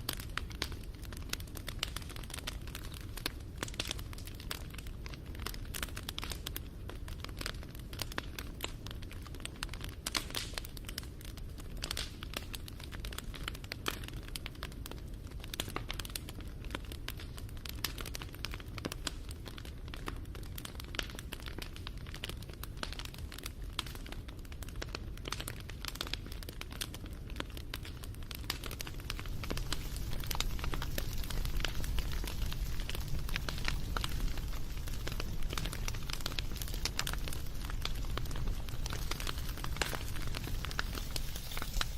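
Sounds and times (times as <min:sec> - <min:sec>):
low rumble of flames: 0:00.0 - 0:41.9
wood fire crackling: 0:00.0 - 0:41.9.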